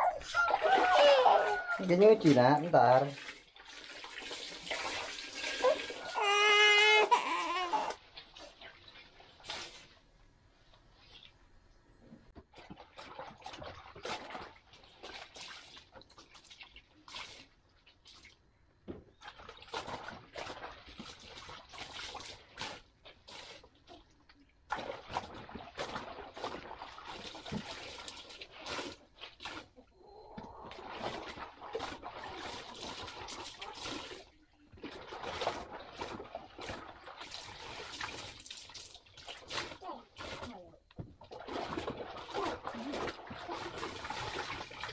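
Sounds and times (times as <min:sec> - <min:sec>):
water splashing and sloshing: 0:00.0 - 0:11.4, 0:12.2 - 0:44.9.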